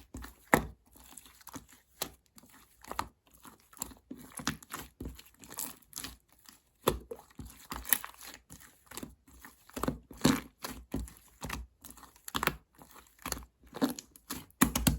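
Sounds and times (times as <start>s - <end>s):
crinkling and crunching: 0.0s - 14.9s.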